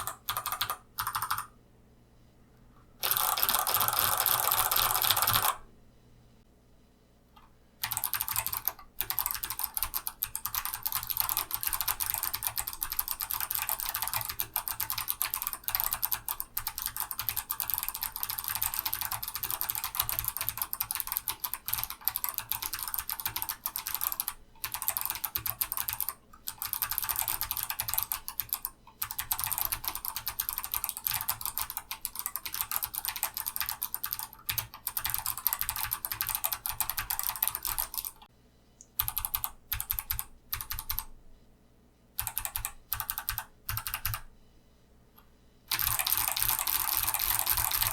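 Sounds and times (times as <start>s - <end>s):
clicky mechanical keyboard typing: 0.0s - 1.5s, 3.0s - 5.6s, 7.4s - 38.3s, 39.0s - 41.1s, 42.2s - 44.3s, 45.7s - 47.9s.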